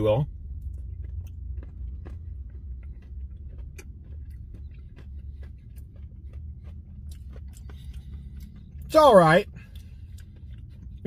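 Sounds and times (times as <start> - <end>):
low hum inside car: 0.0 - 11.0
chewing crunchy food: 0.2 - 11.0.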